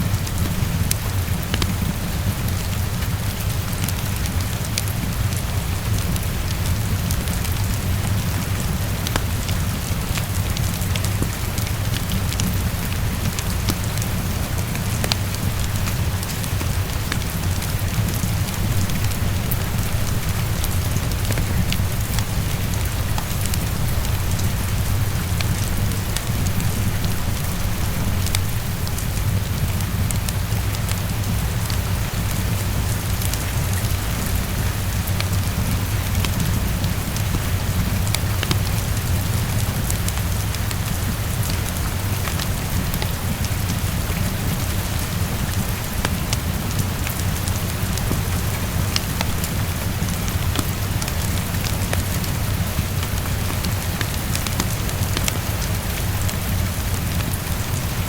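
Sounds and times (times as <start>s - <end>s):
constant low rumble: 0.0s - 58.0s
heavy rain on a window: 0.0s - 58.0s.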